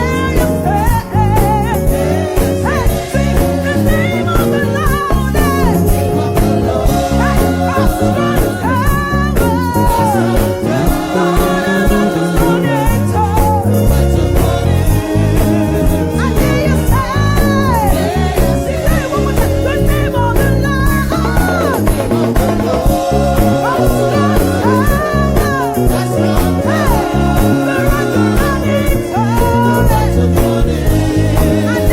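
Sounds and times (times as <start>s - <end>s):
gospel band playing: 0.0s - 31.9s
person singing: 0.0s - 31.9s.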